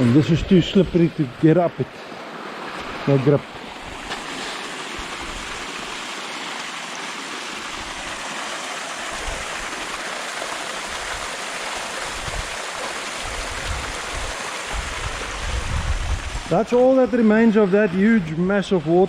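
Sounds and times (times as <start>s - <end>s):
rushing stream water: 0.0s - 19.0s.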